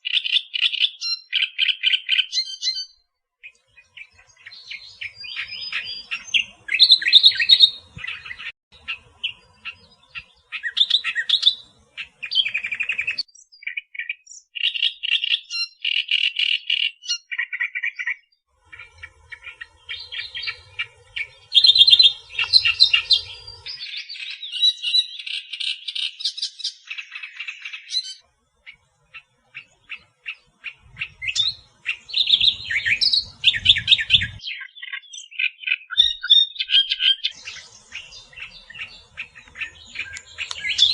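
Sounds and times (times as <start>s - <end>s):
reed warbler singing: 0.0s - 40.9s.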